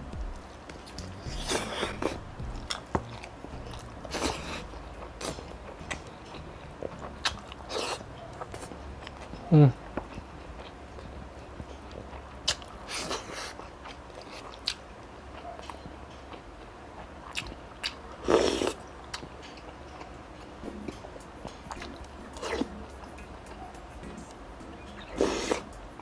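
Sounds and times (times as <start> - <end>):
chewing and biting food: 0.3 - 26.0.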